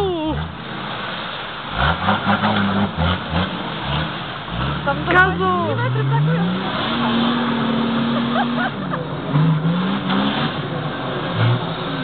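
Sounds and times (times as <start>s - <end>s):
wheels churning mud: 0.0s - 12.0s
suv engine revving hard: 0.3s - 12.0s.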